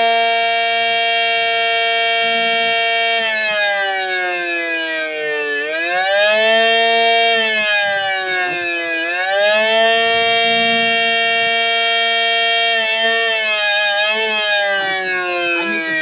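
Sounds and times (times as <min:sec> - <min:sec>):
wavering siren: 0:00.0 - 0:16.0.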